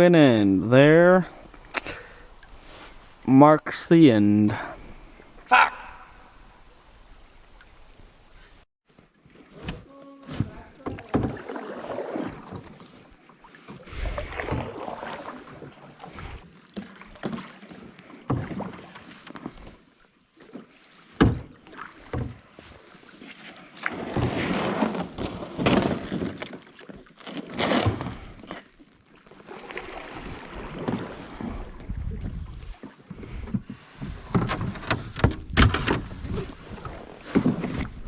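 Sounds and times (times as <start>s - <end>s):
paddle splashing water: 0.8s - 8.6s, 9.2s - 27.8s, 28.4s - 38.0s.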